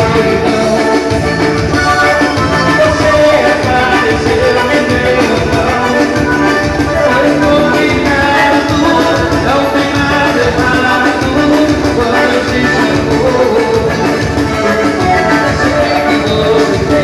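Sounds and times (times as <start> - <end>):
live band playing dance music: 0.0 - 17.0.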